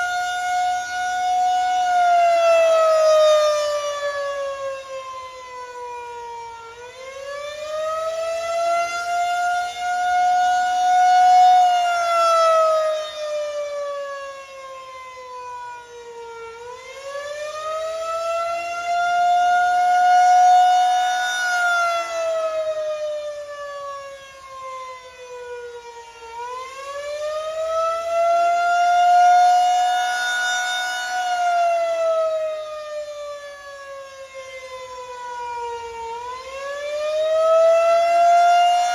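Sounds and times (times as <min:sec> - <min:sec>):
rotating electronic siren wailing: 0:00.0 - 0:38.9.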